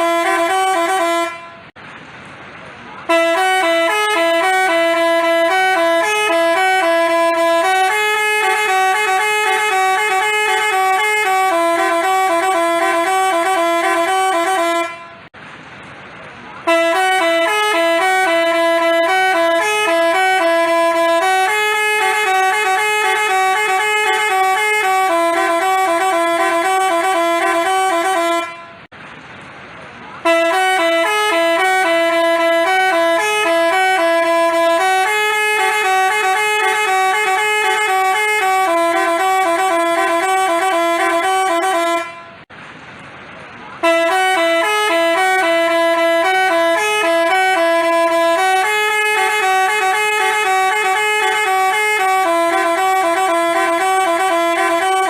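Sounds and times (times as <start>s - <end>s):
bus horn melody: 0.0s - 1.8s, 3.0s - 15.4s, 16.6s - 28.9s, 30.2s - 42.5s, 43.8s - 55.0s.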